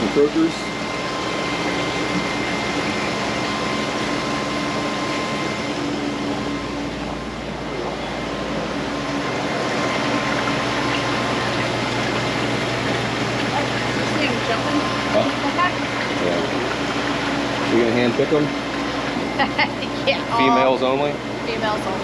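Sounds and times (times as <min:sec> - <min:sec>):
machine hum and hiss: 0:00.0 - 0:22.0.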